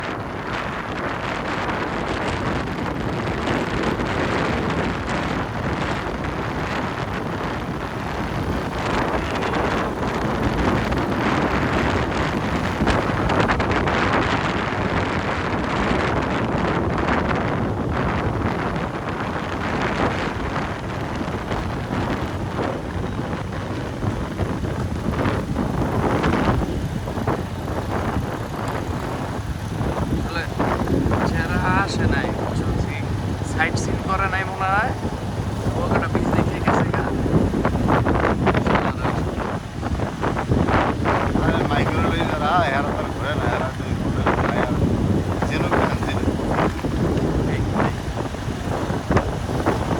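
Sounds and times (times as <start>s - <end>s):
motorbike running: 0.0s - 49.9s
road noise: 0.0s - 49.9s
wind buffeting microphone: 0.0s - 49.9s.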